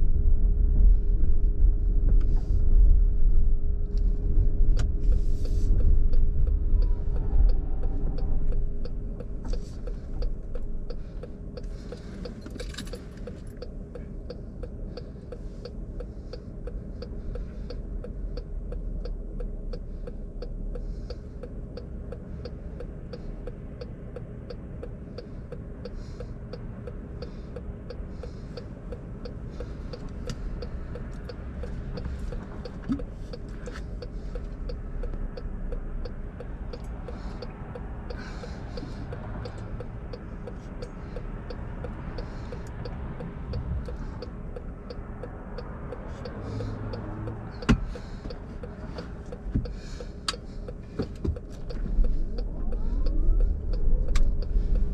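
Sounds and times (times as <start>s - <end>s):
hybrid drive hum: 0.0s - 54.9s
road rumble inside car: 0.0s - 54.9s
turn signal ticking: 0.0s - 54.9s.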